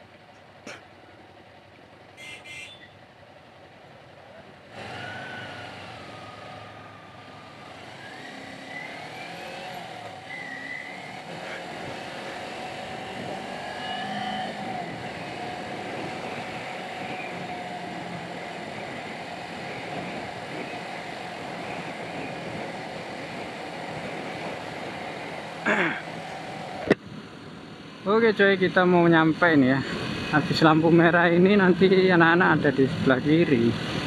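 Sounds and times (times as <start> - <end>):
road and wind noise: 0.0 - 34.0.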